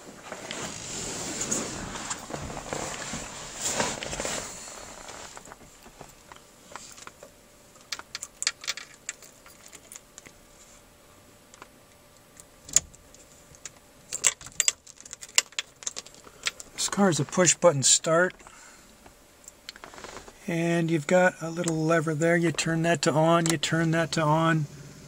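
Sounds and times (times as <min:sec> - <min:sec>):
rustling and handling noise: 0:00.0 - 0:20.8.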